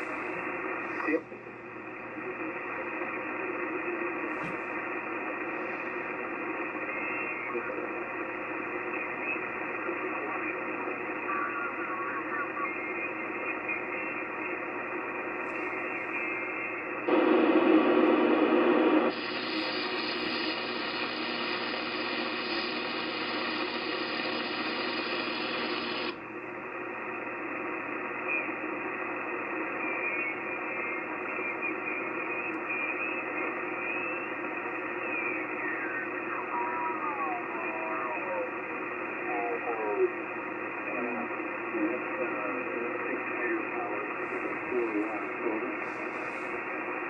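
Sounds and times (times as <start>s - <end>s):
radio receiver hiss and static: 0.0s - 47.0s.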